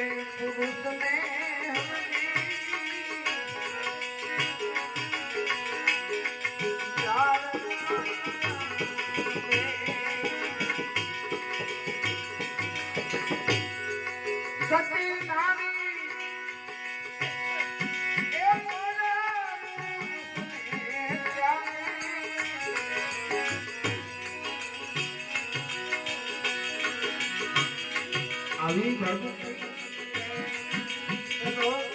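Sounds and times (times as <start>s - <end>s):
person singing devotional song: 0.0s - 31.9s
tabla strokes: 0.0s - 31.9s.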